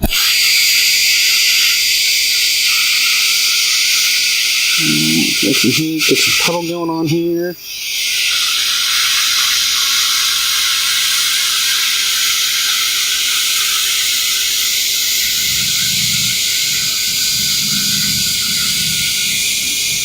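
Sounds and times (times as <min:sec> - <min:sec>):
welding arc hissing: 0:00.0 - 0:20.0.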